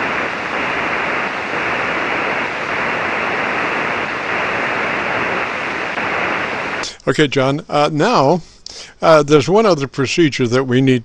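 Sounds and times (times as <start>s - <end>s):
radio static hiss: 0.0s - 9.6s.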